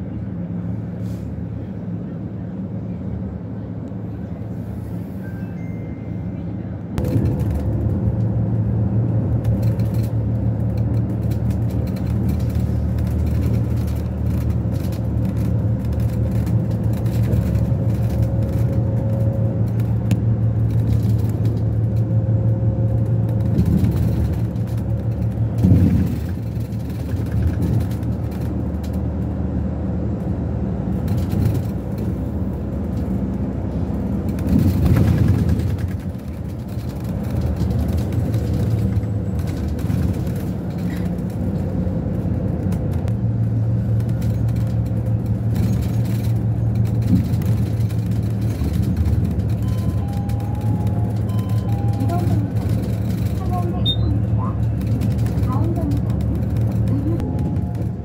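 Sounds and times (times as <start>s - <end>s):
bus engine and road rumble: 0.0s - 58.0s
bus jolt: 0.0s - 58.0s.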